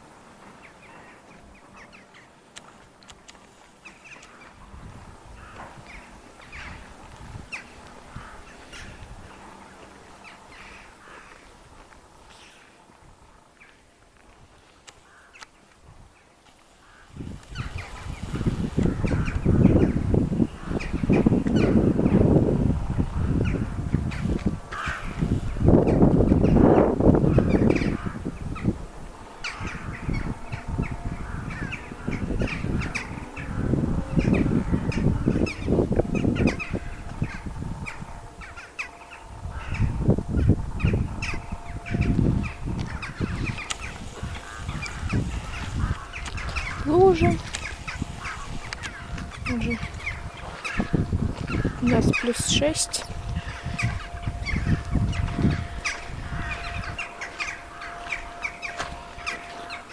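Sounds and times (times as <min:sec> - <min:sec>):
flock of birds cawing: 0:03.8 - 0:12.8, 0:14.9 - 0:15.7, 0:16.8 - 0:59.9.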